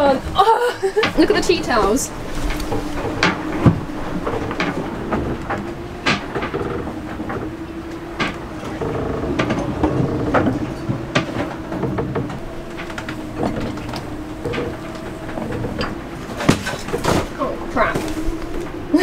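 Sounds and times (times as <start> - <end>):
loose gear and doors clattering: 0.0 - 19.0.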